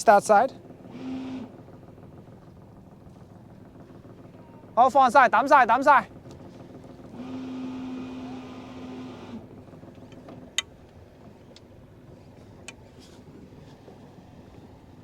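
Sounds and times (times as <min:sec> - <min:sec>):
electric bow thruster whine: 0:00.0 - 0:15.0.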